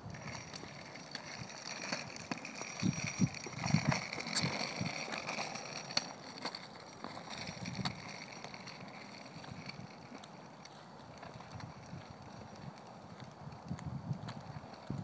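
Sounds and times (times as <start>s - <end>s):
scooter wheels rattling on concrete: 0.0s - 15.0s.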